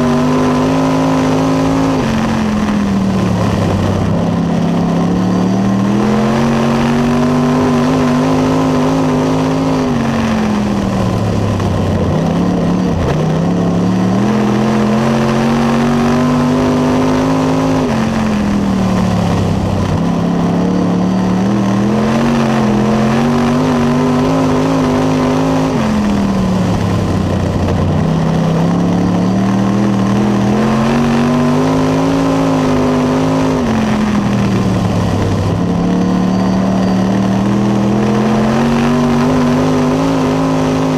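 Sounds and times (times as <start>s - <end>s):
race car engine at speed: 0.0s - 40.9s.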